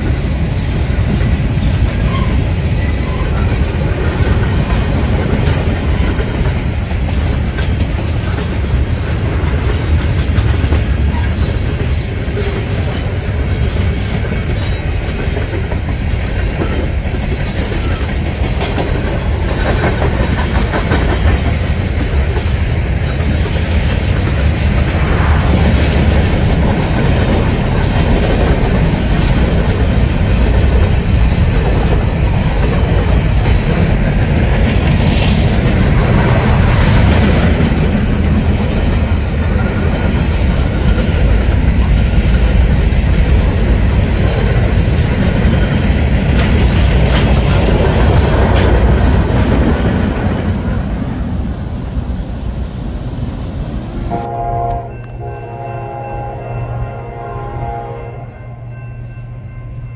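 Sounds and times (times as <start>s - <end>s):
wheels clacking over rail joints: 0.0s - 51.8s
freight train wheels rumbling: 0.0s - 59.9s.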